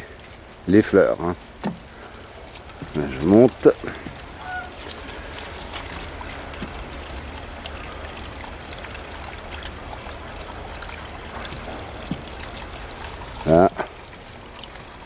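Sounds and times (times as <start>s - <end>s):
faint patter of ticks: 0.0s - 15.0s
low steady rumble: 0.0s - 15.0s
water trickling into pond: 0.0s - 15.0s.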